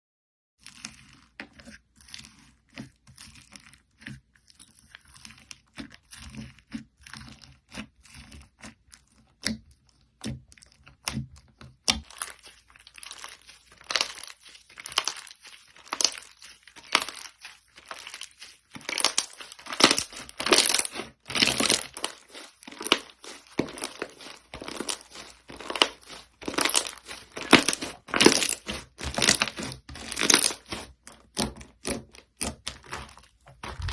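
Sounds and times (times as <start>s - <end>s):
slime squelching and crackling: 0.6s - 33.9s.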